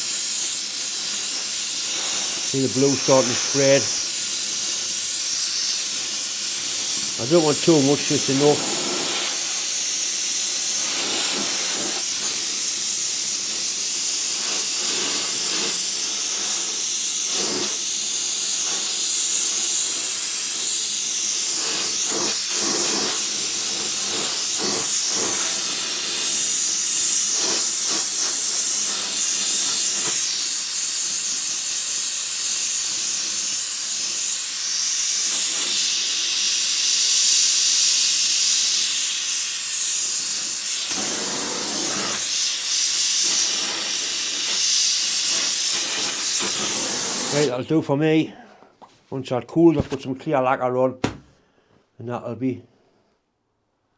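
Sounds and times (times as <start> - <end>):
gas torch hissing: 0.0 - 48.0.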